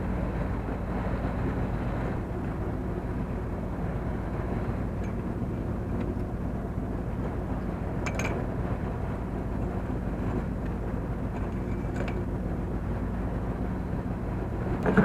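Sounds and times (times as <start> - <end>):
boat diesel engine droning: 0.0 - 15.0.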